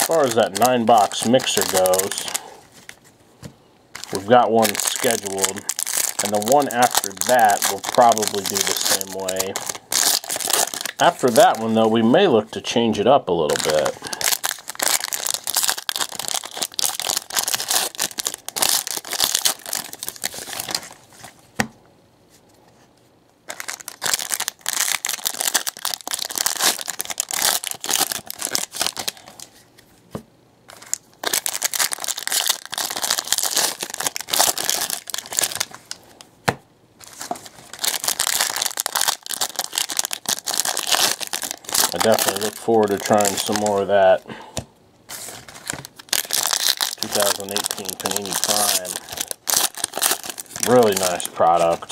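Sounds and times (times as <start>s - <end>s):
foil wrappers tearing and crinkling: 0.0s - 3.0s, 4.0s - 12.0s, 13.5s - 21.0s, 23.5s - 29.6s, 30.7s - 36.2s, 37.0s - 44.2s, 45.1s - 51.9s.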